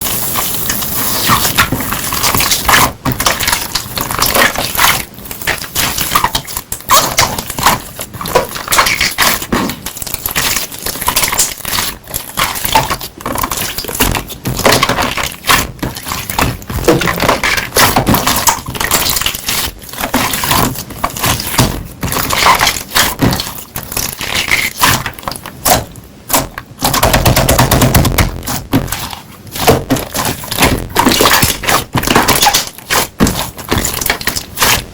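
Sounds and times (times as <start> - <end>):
slime squelching: 0.0 - 34.9.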